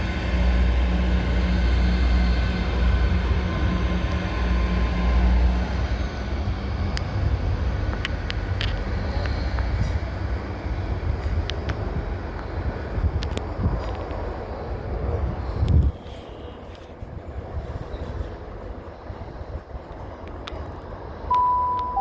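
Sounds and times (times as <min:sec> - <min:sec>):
diesel train engine hum: 0:00.0 - 0:15.9, 0:17.2 - 0:22.0.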